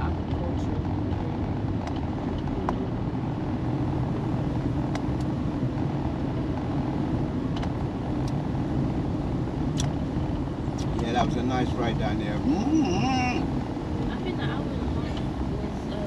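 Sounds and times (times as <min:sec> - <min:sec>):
van engine and tyre rumble: 0:00.0 - 0:16.0.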